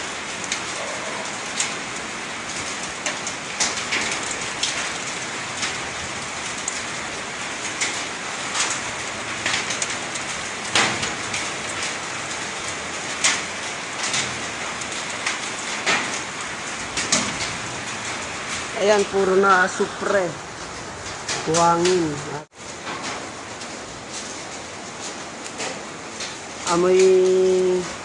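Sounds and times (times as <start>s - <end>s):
rain hissing: 0.0s - 28.0s.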